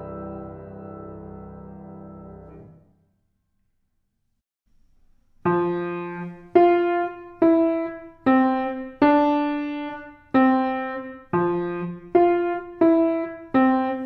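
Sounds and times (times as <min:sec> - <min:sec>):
grand piano notes ringing: 0:00.0 - 0:03.0, 0:05.5 - 0:14.0.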